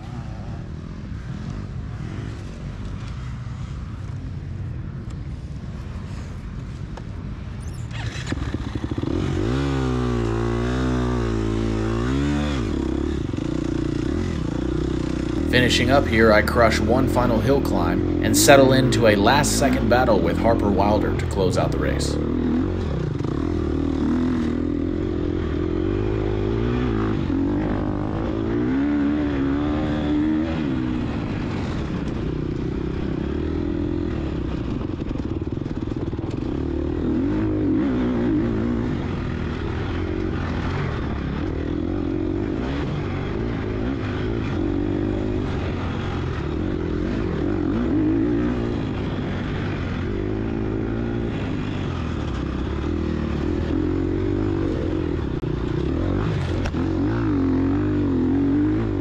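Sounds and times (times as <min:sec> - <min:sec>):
dirt bike engine revving: 0:07.9 - 0:59.0.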